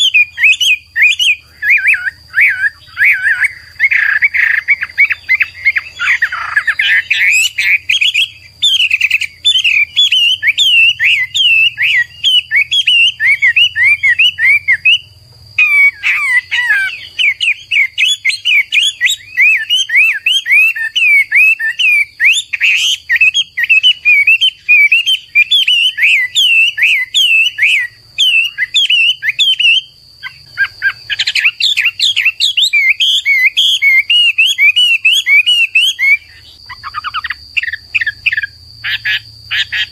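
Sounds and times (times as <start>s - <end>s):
bird singing rapid whistled notes: 0.0s - 39.9s.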